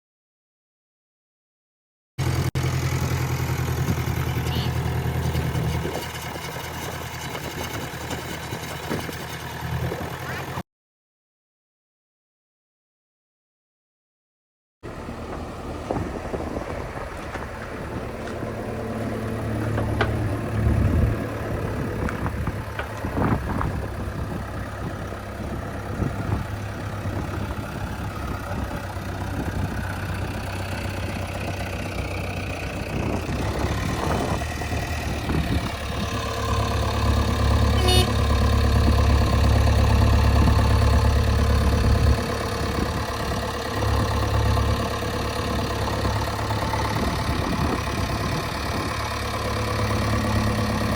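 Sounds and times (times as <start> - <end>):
diesel engine running: 2.2 - 10.6, 14.8 - 50.9.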